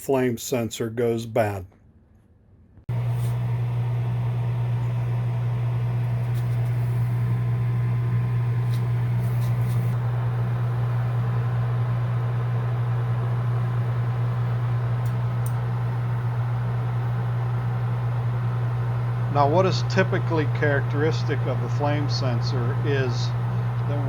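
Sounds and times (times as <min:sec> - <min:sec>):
furnace motor hum: 0:02.9 - 0:24.0.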